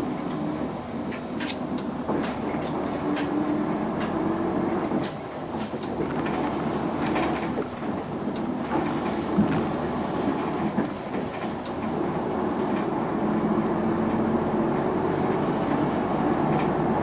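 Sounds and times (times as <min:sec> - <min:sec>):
bus body rattling: 0:00.0 - 0:17.0
bus diesel engine drone: 0:00.0 - 0:17.0.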